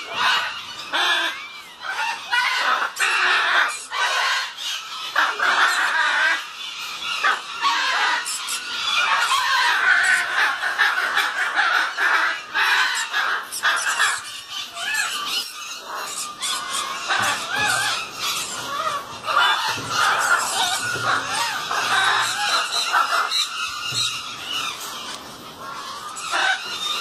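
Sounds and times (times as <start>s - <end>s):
cockatoos screeching: 0.0s - 27.0s.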